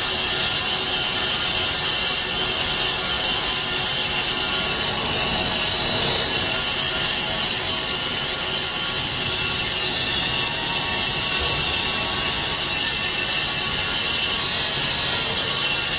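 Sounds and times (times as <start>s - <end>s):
foam-cutting machine hissing: 0.0s - 15.9s.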